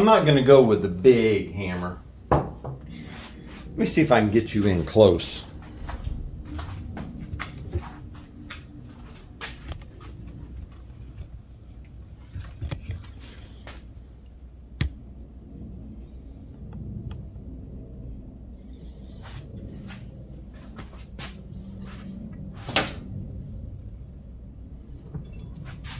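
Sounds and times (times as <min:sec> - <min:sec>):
steady low rumble: 0:00.0 - 0:25.9.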